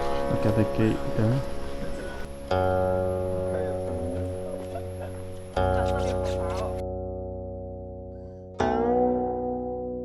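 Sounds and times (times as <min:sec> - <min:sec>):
plucked zither notes: 0:00.0 - 0:10.0.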